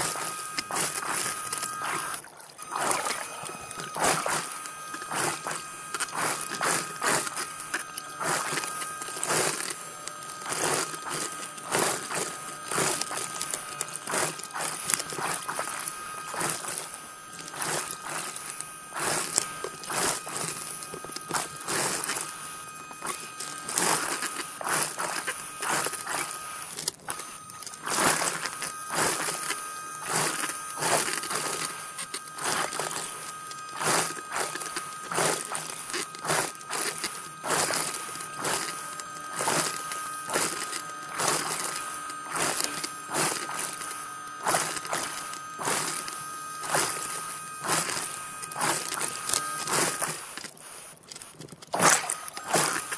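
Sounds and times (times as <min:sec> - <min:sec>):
crackling noise bursts: 0:00.0 - 0:52.9
underwater motor whining: 0:00.0 - 0:52.9.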